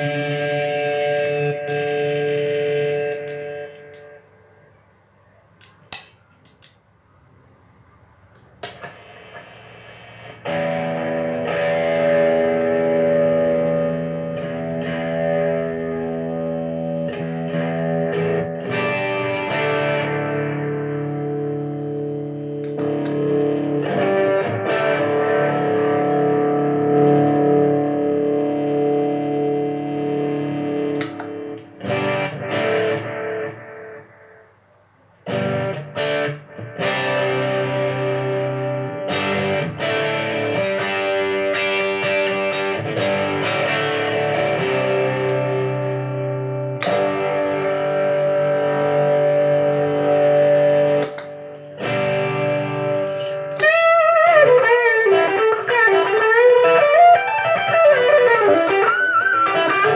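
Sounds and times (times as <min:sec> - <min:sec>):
electric guitar chords ringing: 0:00.0 - 0:04.8, 0:08.4 - 0:34.6, 0:35.2 - 0:59.9
wah pedal sweeping guitar tone: 0:00.0 - 0:04.9, 0:08.4 - 0:34.5, 0:35.3 - 0:59.9.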